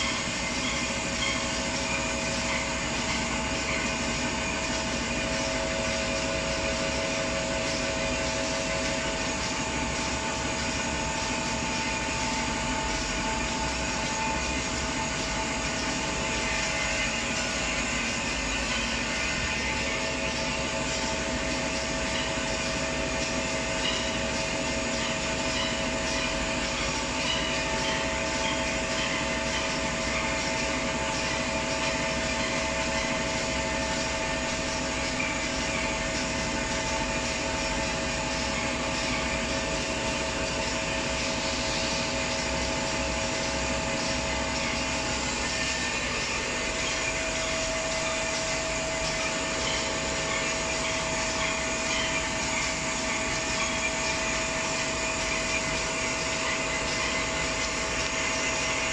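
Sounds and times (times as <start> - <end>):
machine humming and whining: 0.0 - 58.9.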